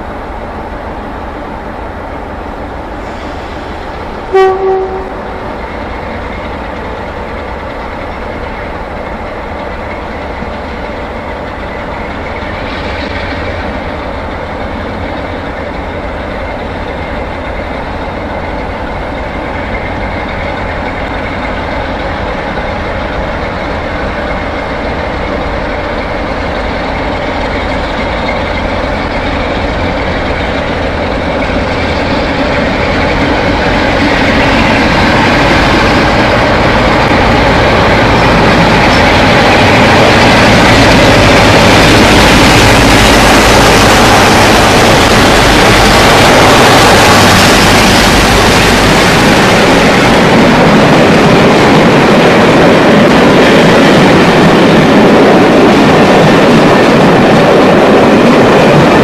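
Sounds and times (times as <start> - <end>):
diesel locomotive engine running: 0.0 - 59.0
train rail noise: 0.0 - 59.0.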